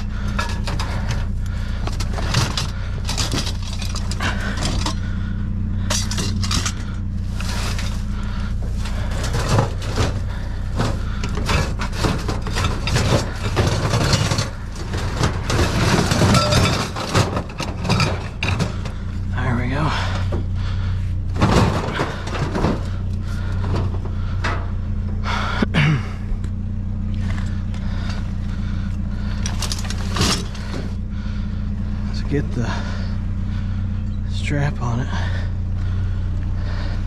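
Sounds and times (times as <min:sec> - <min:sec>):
metal scrap clanking and rattling: 0:00.0 - 0:25.9, 0:27.0 - 0:37.0
vehicle engine idling: 0:00.0 - 0:37.0.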